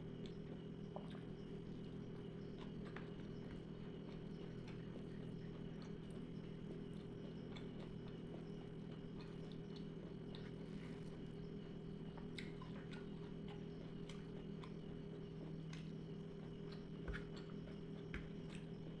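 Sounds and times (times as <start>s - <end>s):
steady low hum: 0.0s - 19.0s
chewing mouth clicks and smacks: 0.2s - 19.0s.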